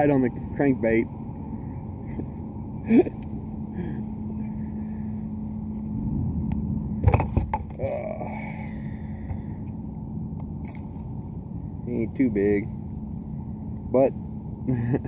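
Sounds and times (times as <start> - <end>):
faint steady hum: 0.0 - 15.0
steady low rumble: 0.0 - 15.0.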